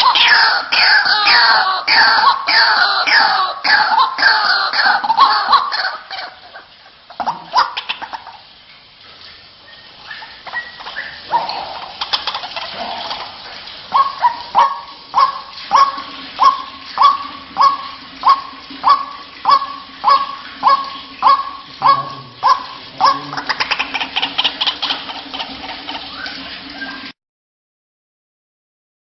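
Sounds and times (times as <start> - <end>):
waterhen calling: 0.0 - 27.2.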